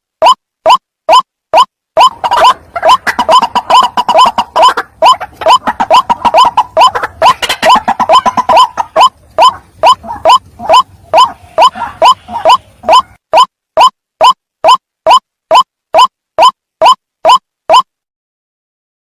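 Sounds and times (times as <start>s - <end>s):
waterhen calling: 1.1s - 17.8s.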